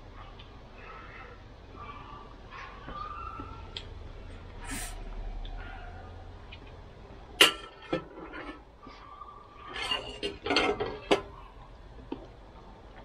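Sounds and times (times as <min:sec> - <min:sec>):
handling and eating noises: 0:01.8 - 0:13.0.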